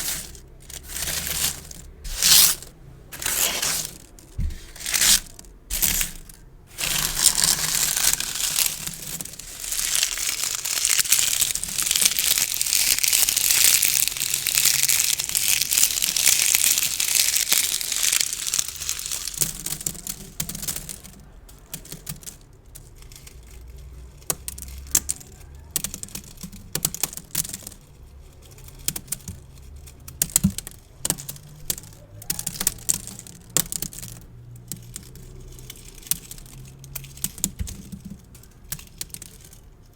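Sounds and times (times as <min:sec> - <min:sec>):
gift bows crinkling: 0:00.0 - 0:39.9.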